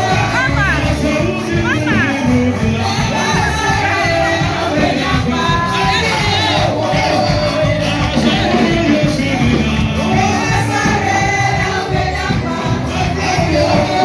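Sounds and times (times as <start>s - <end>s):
church praise music with singing: 0.0s - 14.0s
congregation shouting and cheering: 0.0s - 14.0s.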